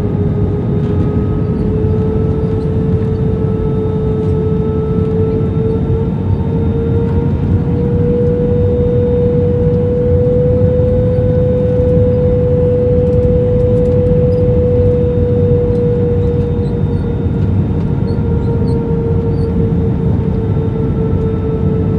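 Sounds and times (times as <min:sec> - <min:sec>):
airplane cabin rumble: 0:00.0 - 0:21.9
jet engine whine: 0:00.0 - 0:21.9.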